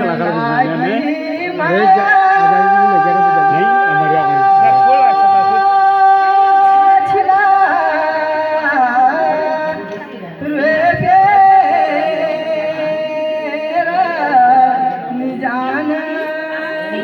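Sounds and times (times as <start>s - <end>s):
man singing folk song: 0.0s - 17.0s.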